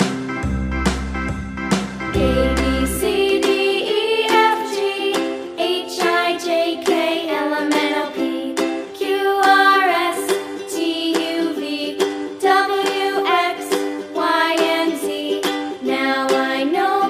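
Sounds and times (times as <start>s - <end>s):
cheerful ukulele music: 0.0s - 17.0s
person singing: 2.2s - 17.0s.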